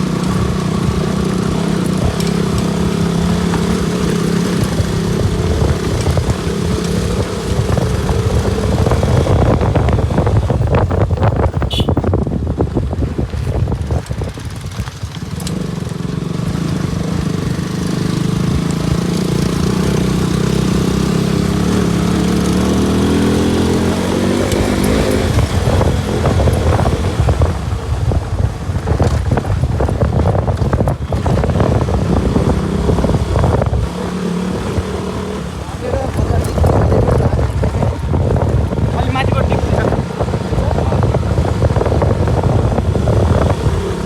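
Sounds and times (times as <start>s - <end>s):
motorcycle engine under load: 0.0s - 44.0s.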